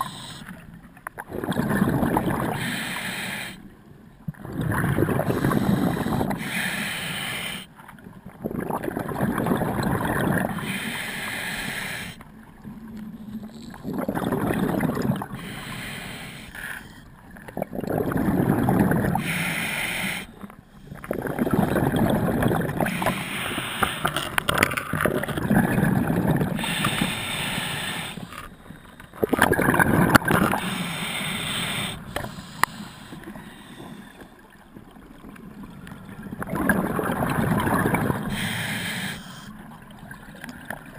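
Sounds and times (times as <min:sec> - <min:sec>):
exhaled bubbles gurgling underwater: 0:00.0 - 0:40.9.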